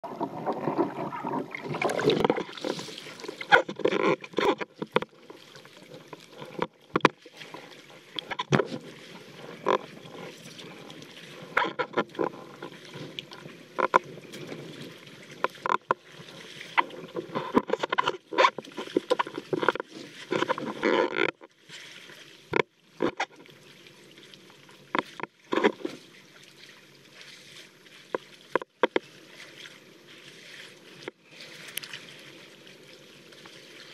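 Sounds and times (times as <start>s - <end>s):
water splashing and sloshing: 0.0s - 33.9s.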